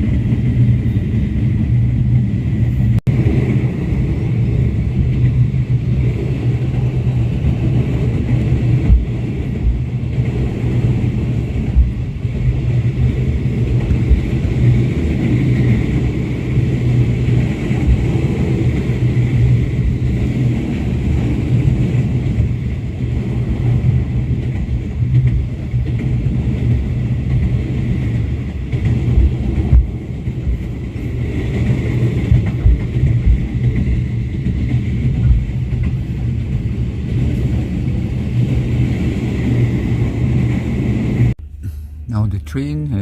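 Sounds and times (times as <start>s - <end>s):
train running on track: 0.0s - 43.0s.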